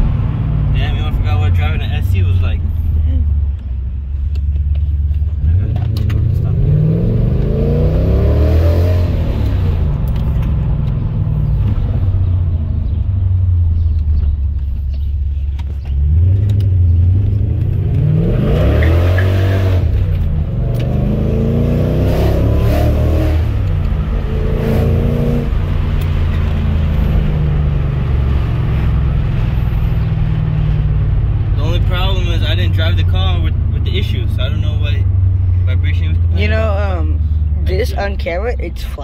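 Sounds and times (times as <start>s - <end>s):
road noise: 0.0s - 39.0s
car engine revving: 4.2s - 39.0s.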